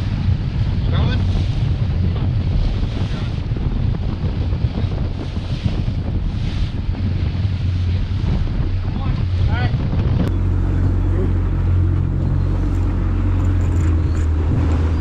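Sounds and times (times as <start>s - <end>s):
ocean water washing: 0.0s - 15.0s
wind buffeting microphone: 0.0s - 15.0s.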